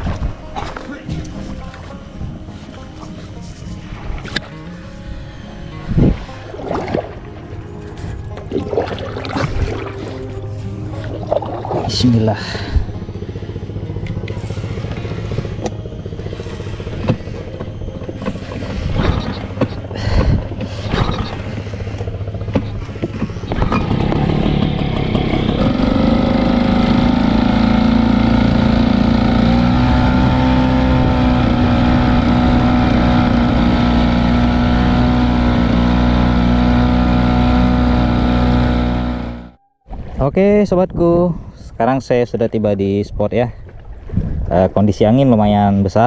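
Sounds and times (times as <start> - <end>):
outboard motor running: 0.0 - 40.8.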